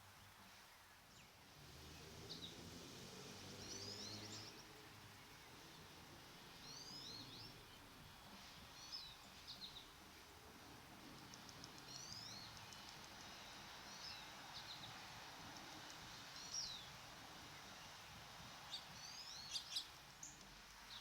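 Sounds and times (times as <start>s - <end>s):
songbird chirps: 0.0s - 21.0s.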